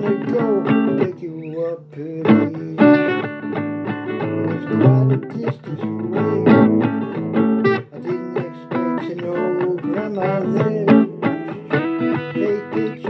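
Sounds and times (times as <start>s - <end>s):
blues guitar playing: 0.0s - 13.0s.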